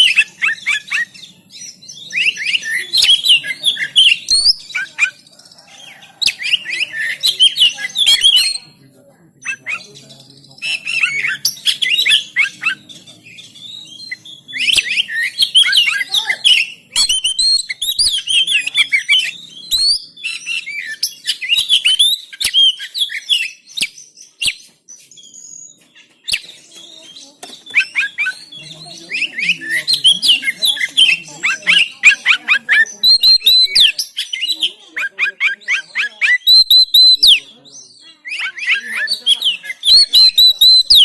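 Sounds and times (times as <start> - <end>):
songbird whistling and chirping: 0.0 - 8.8, 9.4 - 41.0.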